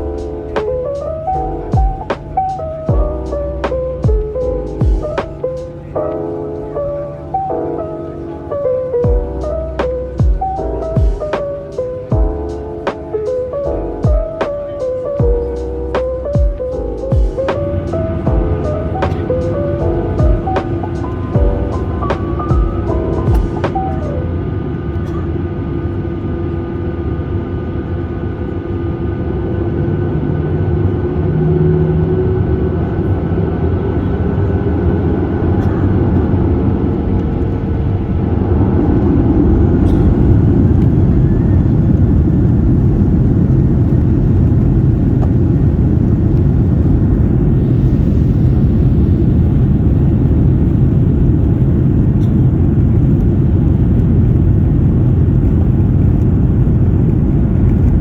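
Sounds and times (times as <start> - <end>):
jet engines humming in cabin: 0.0 - 58.0.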